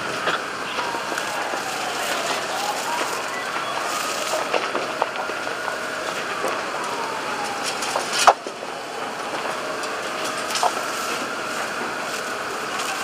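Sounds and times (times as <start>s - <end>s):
fire crackling and popping: 0.0s - 13.0s
fire roaring: 0.0s - 13.0s.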